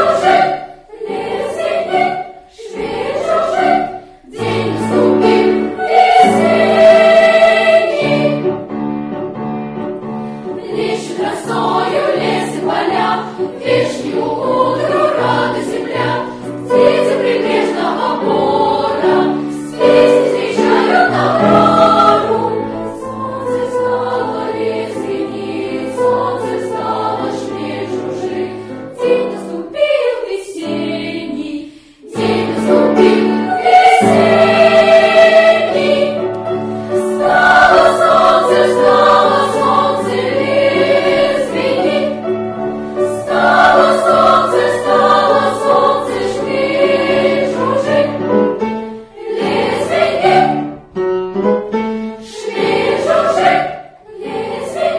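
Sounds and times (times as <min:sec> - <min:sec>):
children's choir singing: 0:00.0 - 0:09.0, 0:10.4 - 0:54.9.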